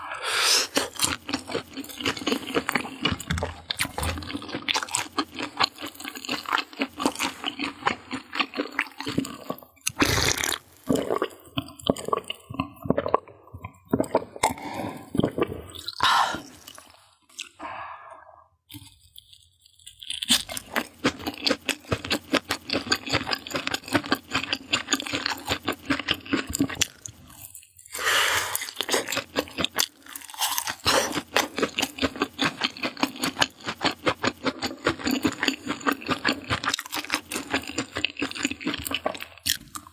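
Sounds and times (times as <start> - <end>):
crunching and chewing fried meat: 0.6 - 16.0, 18.7 - 39.9.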